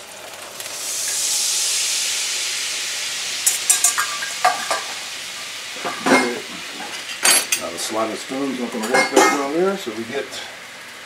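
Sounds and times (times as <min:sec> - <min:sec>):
sauce hissing in hot skillet: 0:00.0 - 0:11.0.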